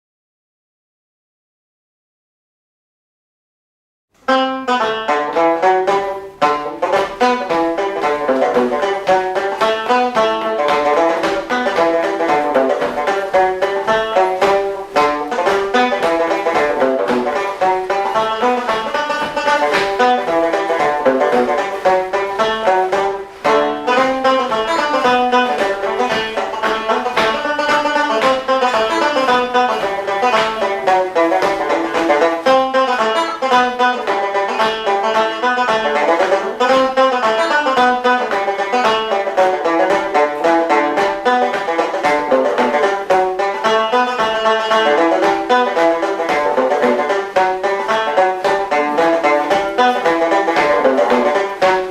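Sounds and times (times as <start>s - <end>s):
banjo-like plucked string melody: 4.2s - 51.9s.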